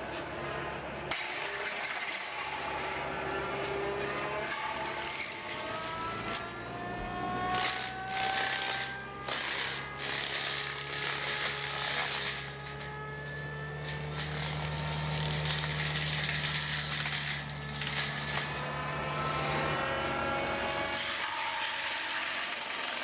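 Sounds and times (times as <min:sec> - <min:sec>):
machine engine running under load: 0:00.0 - 0:23.0.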